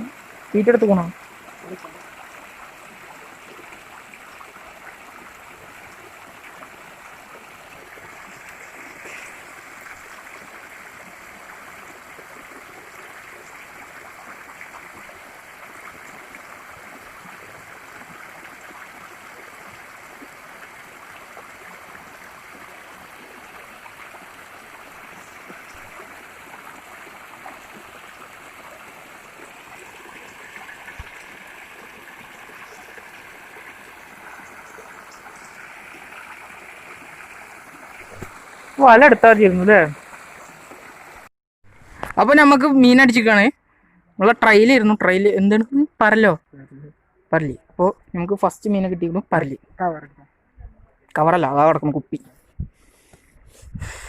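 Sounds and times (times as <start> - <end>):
water flowing steadily: 0.0 - 43.6.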